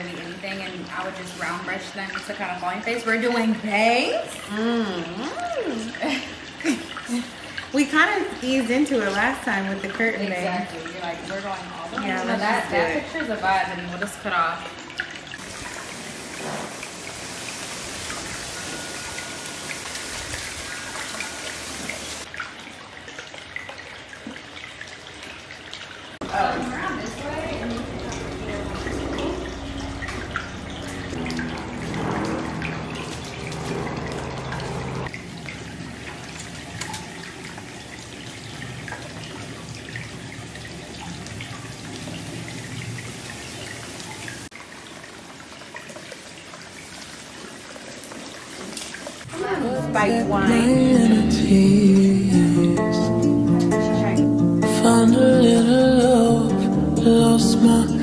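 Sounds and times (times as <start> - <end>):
water dripping: 0.0 - 58.0
water running and splashing: 0.0 - 58.0.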